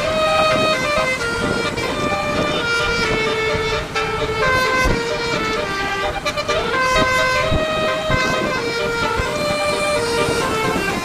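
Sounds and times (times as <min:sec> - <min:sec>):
bus horn playing a melody: 0:00.0 - 0:11.0.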